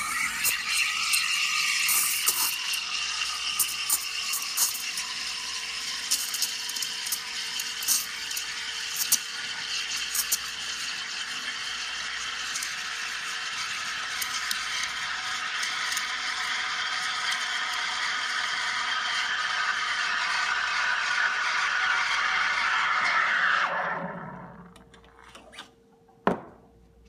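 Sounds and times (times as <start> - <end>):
espresso machine humming and hissing: 0.0 - 24.8.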